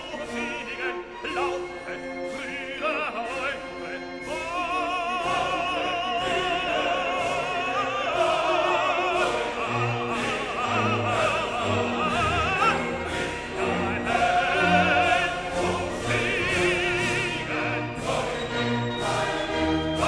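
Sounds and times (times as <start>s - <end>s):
operatic voice singing: 0.0s - 20.0s
orchestral accompaniment: 0.0s - 20.0s.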